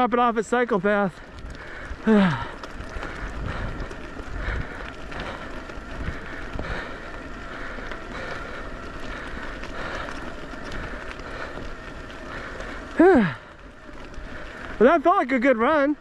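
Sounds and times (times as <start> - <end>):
bike tyre rumble and rattle: 0.0 - 16.0.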